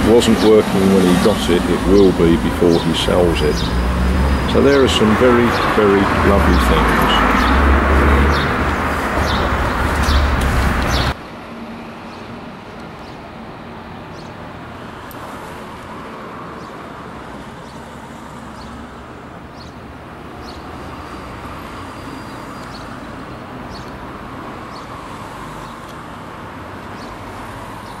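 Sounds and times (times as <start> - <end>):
vehicles passing on busy road: 0.0 - 28.0.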